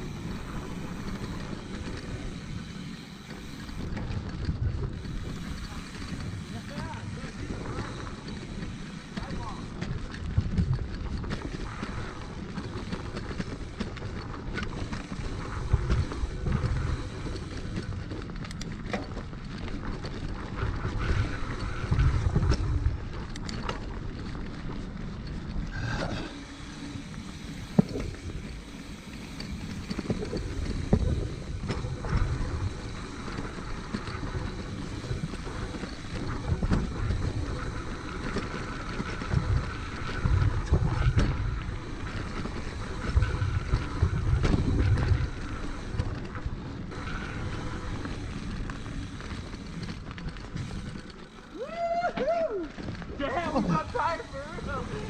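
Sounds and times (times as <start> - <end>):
bike rattling over bumps: 0.0 - 55.0
tyres on dirt: 0.0 - 55.0
wind buffeting microphone: 0.0 - 55.0.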